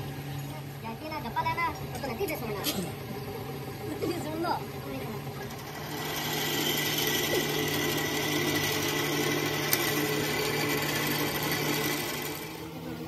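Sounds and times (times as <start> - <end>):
machine tool motor humming: 1.7 - 13.0.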